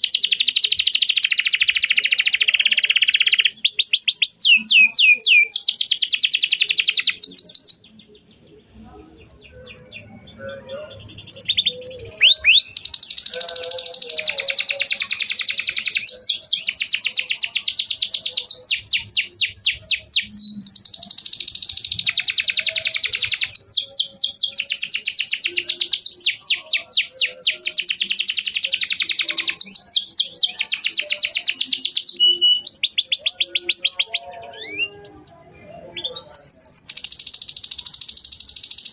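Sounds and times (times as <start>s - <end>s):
canary trilling: 0.0s - 38.9s.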